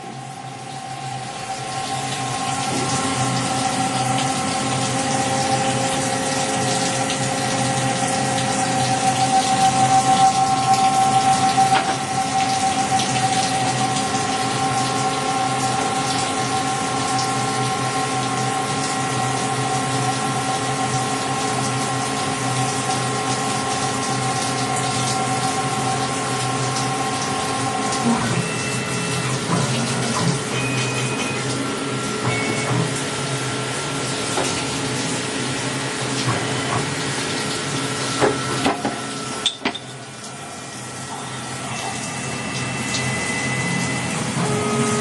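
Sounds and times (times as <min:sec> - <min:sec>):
lathe whine: 0:00.0 - 0:45.0.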